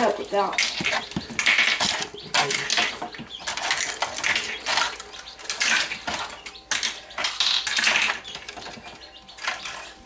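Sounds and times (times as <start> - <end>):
eggshells clinking on plastic tray: 0.4 - 10.0.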